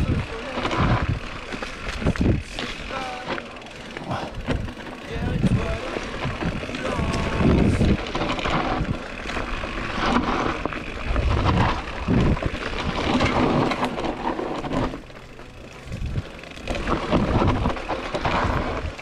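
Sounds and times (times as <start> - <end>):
wind rumble on camera: 0.0 - 3.2, 4.0 - 19.0
bike rattling over bumps: 0.0 - 19.0
tyres rolling over dirt: 0.0 - 19.0.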